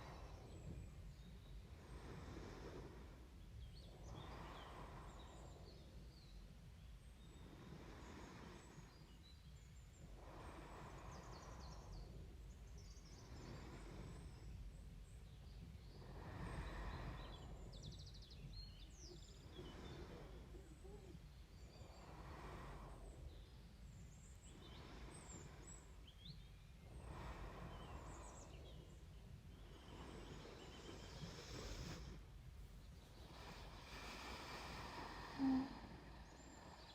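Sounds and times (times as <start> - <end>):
faint bird chirps: 0.0 - 36.9
faint low hum: 0.0 - 36.9
slow quiet breathing: 0.0 - 36.9.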